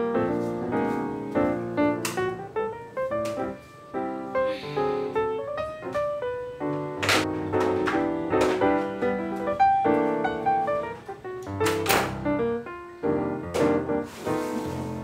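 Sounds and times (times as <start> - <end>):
piano background music: 0.0 - 15.0.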